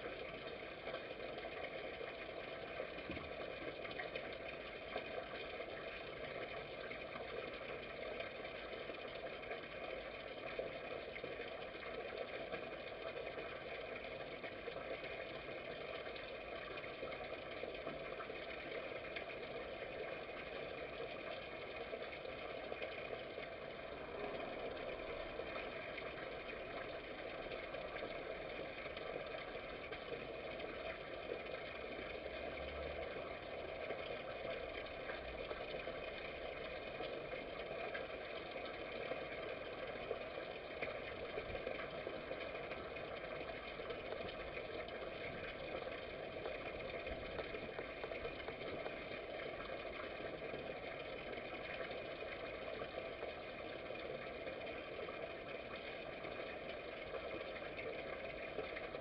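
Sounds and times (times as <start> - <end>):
constant hiss: 0.0 - 59.0
machine-like hum with held tones: 0.0 - 59.0.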